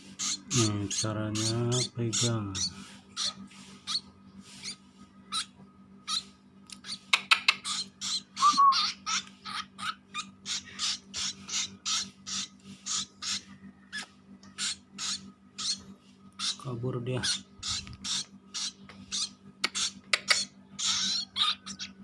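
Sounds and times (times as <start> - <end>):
bird chick begging calls: 0.2 - 22.0.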